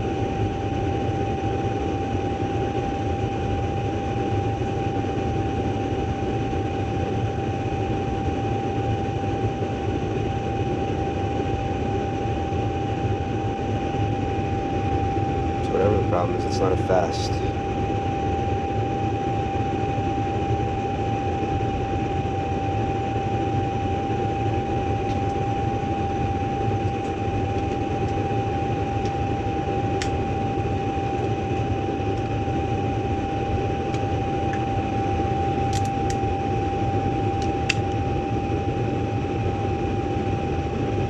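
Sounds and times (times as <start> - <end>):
constant whine: 0.0 - 41.0
furnace blower fan and burners: 0.0 - 41.0.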